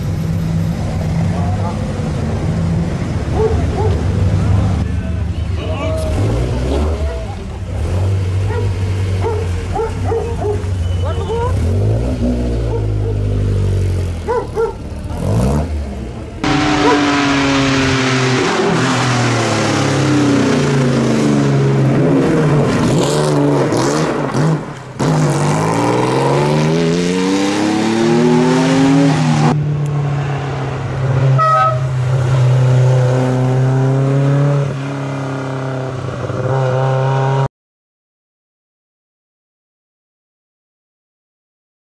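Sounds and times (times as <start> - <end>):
rally car engines revving: 0.0 - 37.5.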